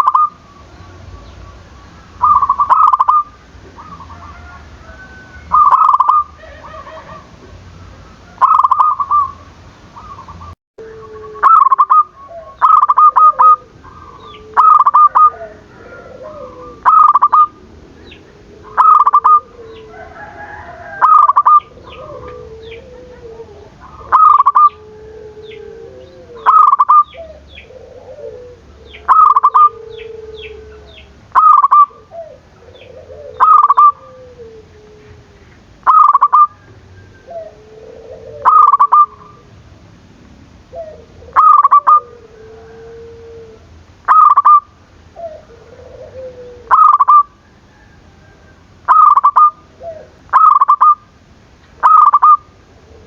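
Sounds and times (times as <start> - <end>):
dove cooing: 0.0 - 39.6, 40.7 - 51.1, 51.7 - 53.0.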